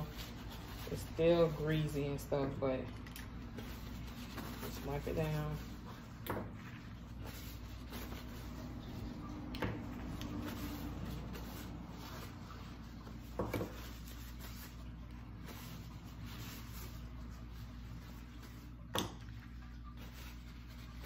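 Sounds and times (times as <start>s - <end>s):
paper towel rubbing plastic: 0.0s - 2.5s, 3.5s - 21.0s.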